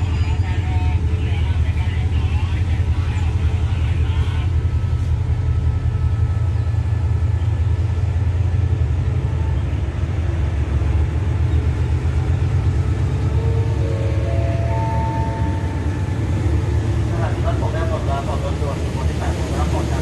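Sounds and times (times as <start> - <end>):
diesel train rumbling past: 0.0 - 20.0.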